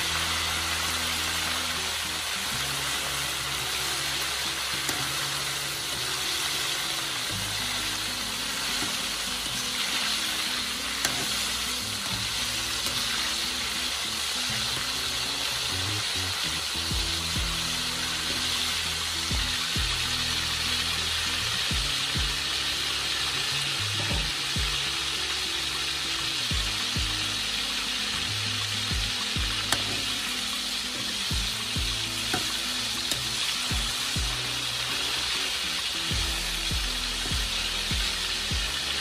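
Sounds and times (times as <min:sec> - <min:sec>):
meat deep-frying in hot oil: 0:00.0 - 0:39.0.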